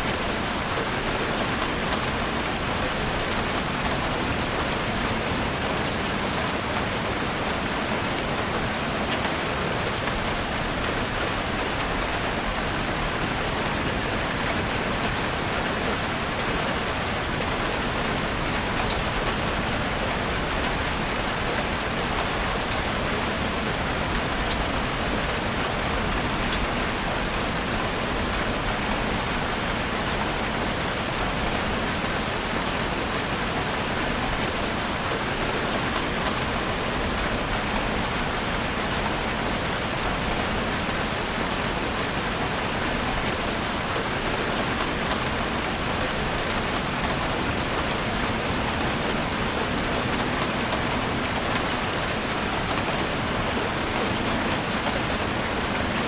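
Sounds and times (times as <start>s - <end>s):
heavy rain drumming on a roof: 0.0s - 56.0s.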